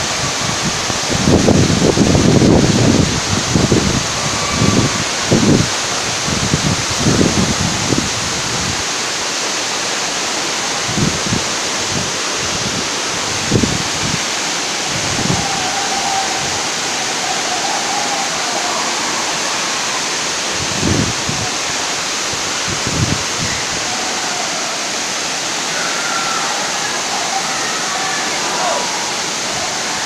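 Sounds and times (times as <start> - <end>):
waterfall roaring onto rocks: 0.0 - 30.0.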